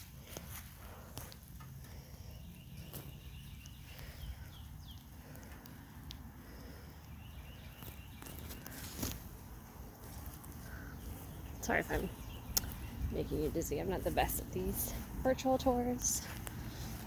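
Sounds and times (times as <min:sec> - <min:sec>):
faint chirping calls: 0:00.0 - 0:17.0
footsteps walking outdoors: 0:00.0 - 0:17.0.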